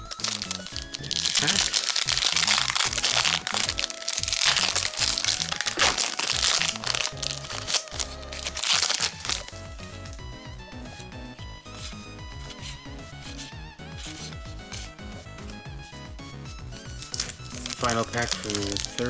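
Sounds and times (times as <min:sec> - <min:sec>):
foil wrapper crinkling: 0:00.0 - 0:10.3, 0:10.9 - 0:16.0, 0:16.6 - 0:19.0
background music: 0:00.0 - 0:19.0.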